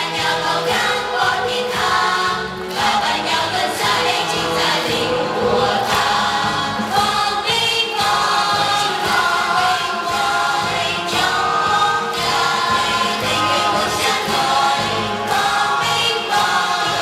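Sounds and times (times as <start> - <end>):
choir singing held notes: 0.0 - 17.0.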